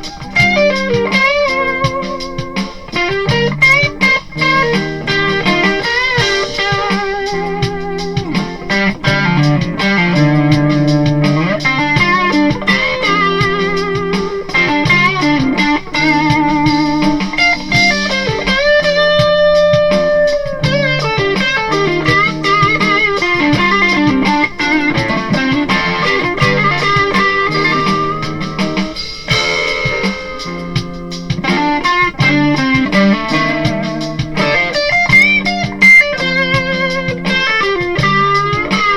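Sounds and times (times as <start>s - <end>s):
electric guitar lead: 0.0s - 38.9s
low backing music: 0.0s - 38.9s.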